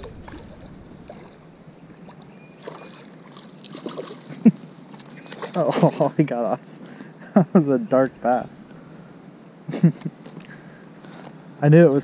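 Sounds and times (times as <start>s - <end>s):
quiet water: 0.0s - 12.0s.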